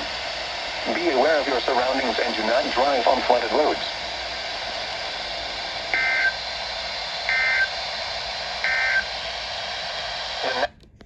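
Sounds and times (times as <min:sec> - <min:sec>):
radio hiss: 0:00.0 - 0:10.7.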